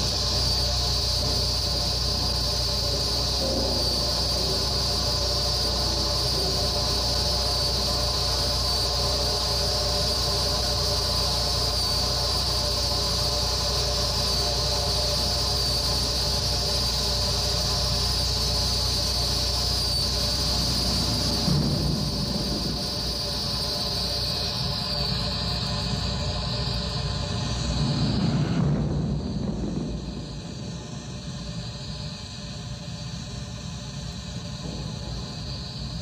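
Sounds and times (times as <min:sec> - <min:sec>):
high hiss: 0:00.0 - 0:36.0
low industrial hum: 0:00.0 - 0:36.0.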